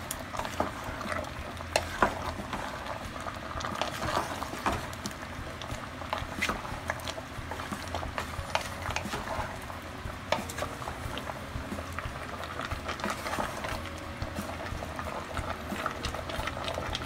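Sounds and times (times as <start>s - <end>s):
spatula scraping pot: 0.0s - 17.0s
spatula stirring thick stew: 0.0s - 17.0s.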